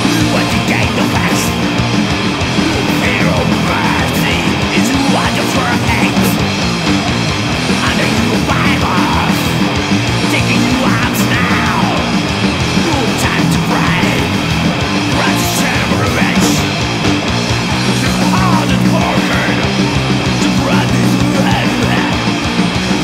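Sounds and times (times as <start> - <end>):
thrash metal music: 0.0 - 23.0.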